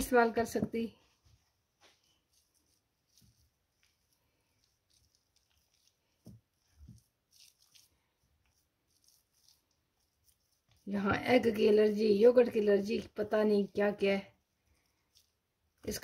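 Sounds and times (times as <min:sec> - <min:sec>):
hands squishing marinade into meat: 0:01.8 - 0:16.0.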